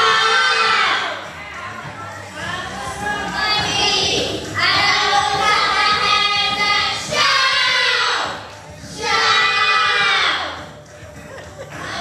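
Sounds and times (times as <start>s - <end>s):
boys singing together: 0.0s - 12.0s.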